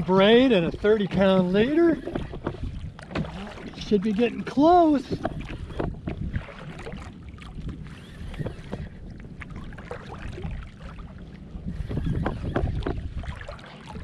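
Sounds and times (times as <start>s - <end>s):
water lapping against kayak hull: 0.0s - 14.0s
wind buffeting microphone: 0.0s - 14.0s.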